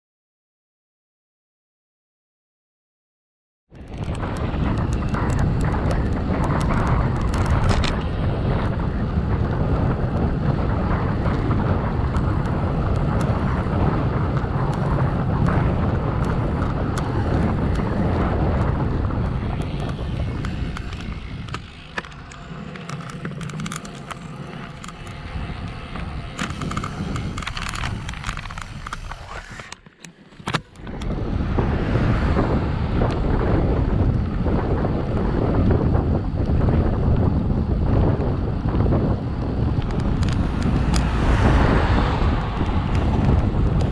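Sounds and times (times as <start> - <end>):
wind rushing over microphone: 3.7 - 43.9.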